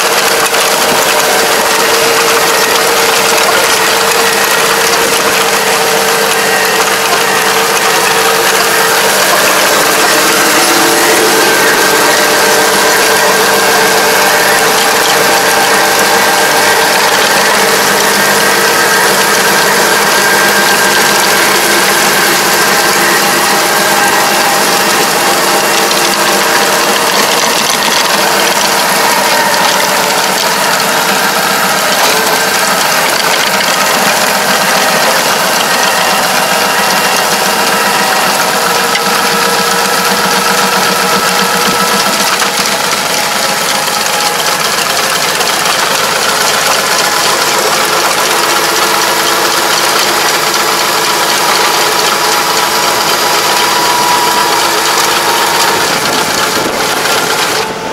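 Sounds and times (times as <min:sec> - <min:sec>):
machine mechanical clatter: 0:00.0 - 0:57.9
steady whining tones: 0:00.0 - 0:57.9
tractor engine: 0:00.0 - 0:57.9.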